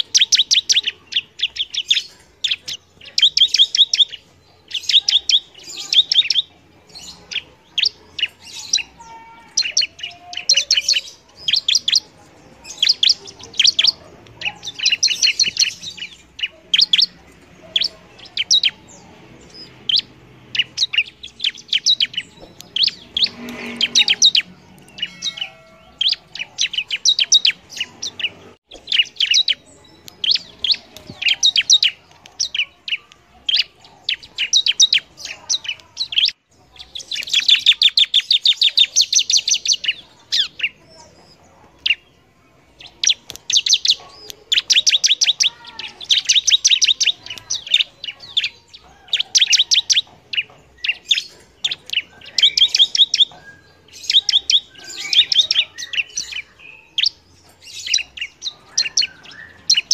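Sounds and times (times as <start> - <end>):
bird singing rapid high chirps: 0.0 - 59.9.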